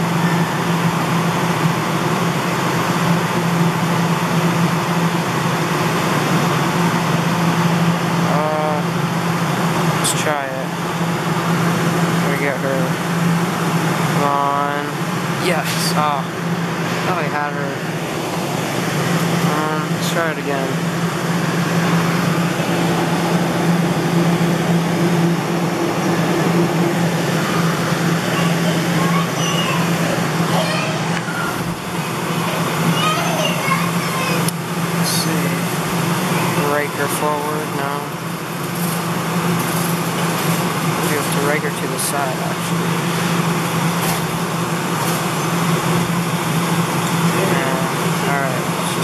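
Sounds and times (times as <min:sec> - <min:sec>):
claw machine humming and whirring: 0:00.0 - 0:49.0.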